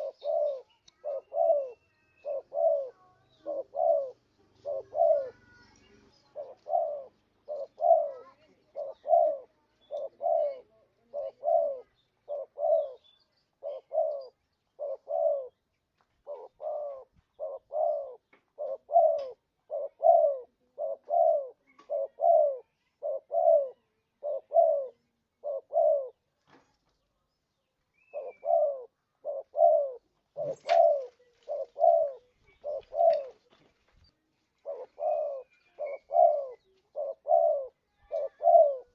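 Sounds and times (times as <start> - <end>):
dove cooing: 0.0 - 15.6, 16.2 - 26.2, 28.0 - 33.6, 34.6 - 38.9.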